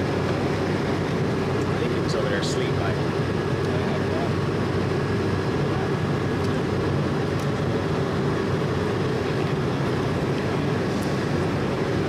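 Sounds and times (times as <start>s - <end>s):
constant low hum: 0.0s - 12.0s
jet cabin engine and airflow noise: 0.0s - 12.0s.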